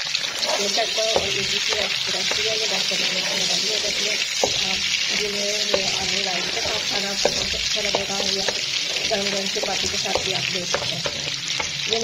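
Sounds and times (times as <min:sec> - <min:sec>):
onions sizzling in hot oil: 0:00.0 - 0:12.0
wooden spoon scraping a pan: 0:00.1 - 0:12.0.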